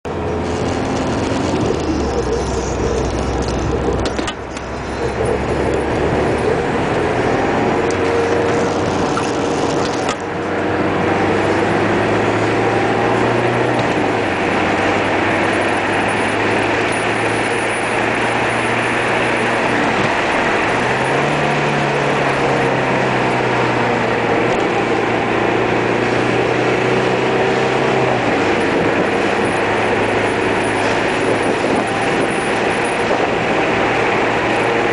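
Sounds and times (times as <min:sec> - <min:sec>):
car engine drone: 0:00.0 - 0:34.9.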